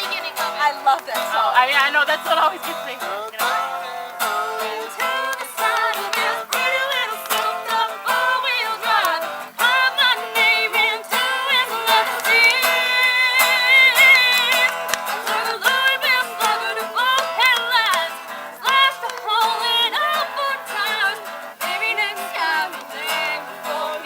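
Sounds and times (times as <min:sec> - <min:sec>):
acoustic guitar strumming: 0:00.0 - 0:24.0
voices singing country song: 0:00.0 - 0:24.0.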